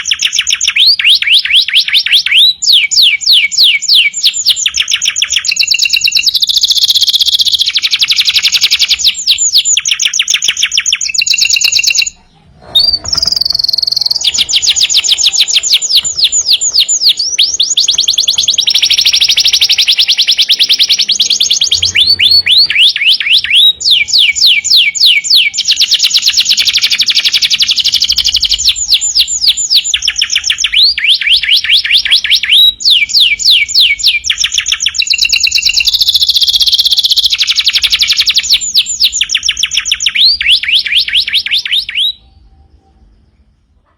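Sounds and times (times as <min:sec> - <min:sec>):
canary singing fast trills: 0:00.0 - 0:43.9.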